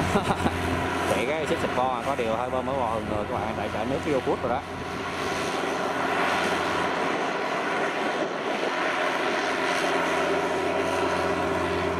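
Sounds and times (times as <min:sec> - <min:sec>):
diesel engine running under load: 0:00.0 - 0:08.9, 0:09.8 - 0:11.9.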